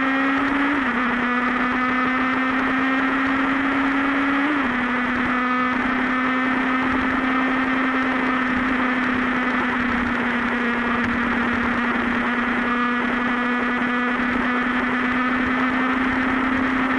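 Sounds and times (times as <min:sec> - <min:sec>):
constant rushing noise: 0:00.0 - 0:16.9
motorbike engine running: 0:00.0 - 0:16.9.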